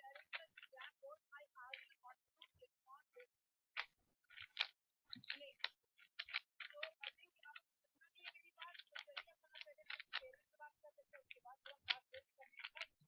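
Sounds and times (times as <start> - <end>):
puzzle cube clicking: 0.0 - 1.0, 1.6 - 2.6, 3.2 - 13.0.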